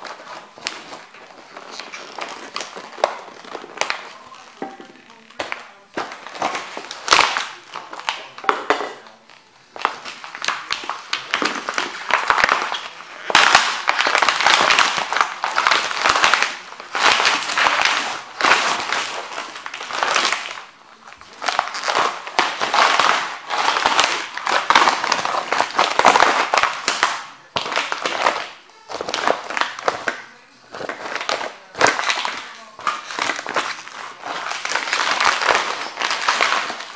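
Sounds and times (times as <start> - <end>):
wooden frame cracking: 0.0 - 9.1, 9.8 - 36.9.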